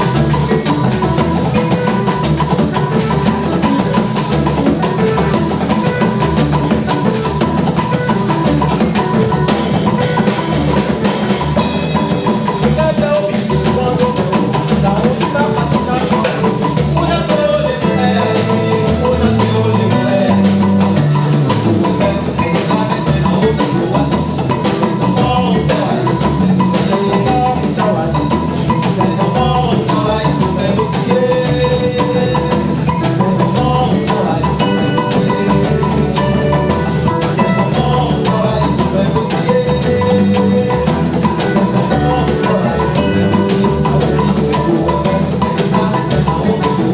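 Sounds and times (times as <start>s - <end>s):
music with driving drum beat: 0.0s - 46.9s.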